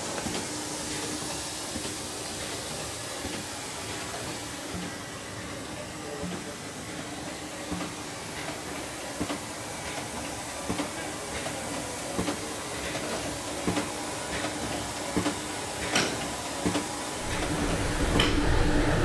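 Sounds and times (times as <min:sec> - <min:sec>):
packaging machine hum and air hiss: 0:00.0 - 0:19.0.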